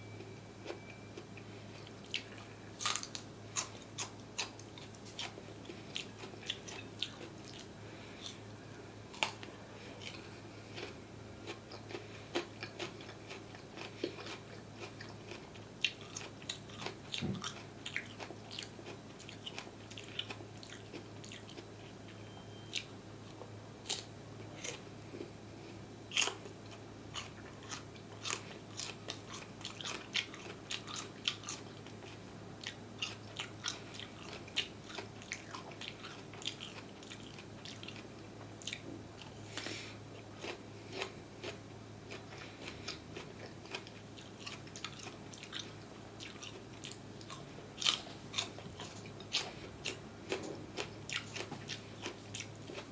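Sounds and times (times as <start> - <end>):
crunchy food chewing: 0.2 - 52.9.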